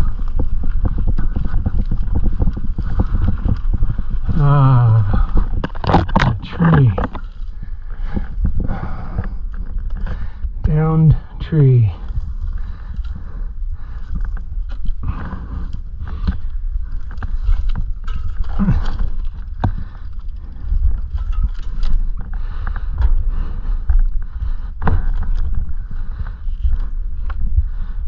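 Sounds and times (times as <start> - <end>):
branches scraping and snapping: 0.0 - 10.8, 12.0 - 27.5
low rumble on microphone: 0.0 - 28.0.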